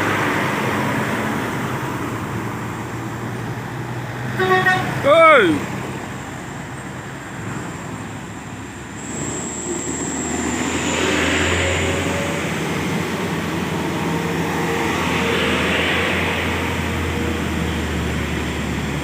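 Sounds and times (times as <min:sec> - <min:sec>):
heavy truck engine climbing: 0:00.0 - 0:19.0.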